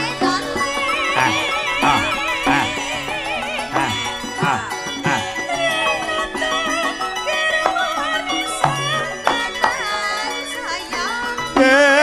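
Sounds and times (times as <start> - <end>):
person singing: 0.0 - 12.0
steady held tones: 0.0 - 12.0
struck metal-keyed instruments ringing: 0.0 - 12.0.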